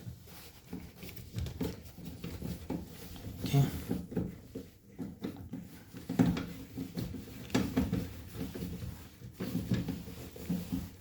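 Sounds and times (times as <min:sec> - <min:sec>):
knocks and handling clatter: 0:00.0 - 0:11.0.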